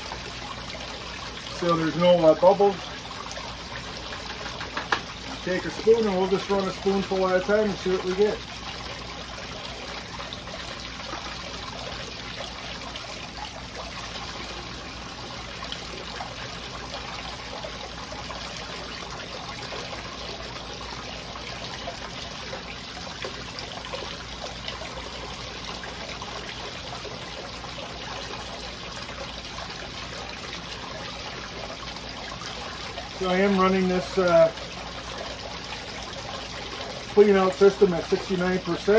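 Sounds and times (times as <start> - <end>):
pump humming: 0.0 - 38.9
water trickling down sluice: 0.0 - 38.9.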